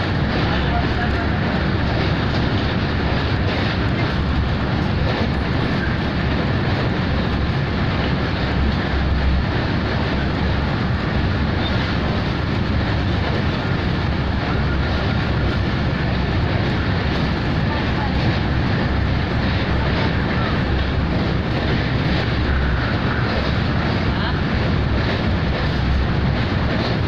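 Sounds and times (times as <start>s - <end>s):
train rumbling over bridge: 0.0s - 27.0s.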